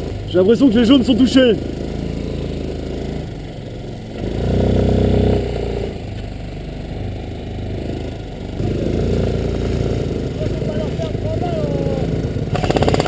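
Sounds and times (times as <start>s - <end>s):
off-road buggy engine running: 0.0s - 13.0s.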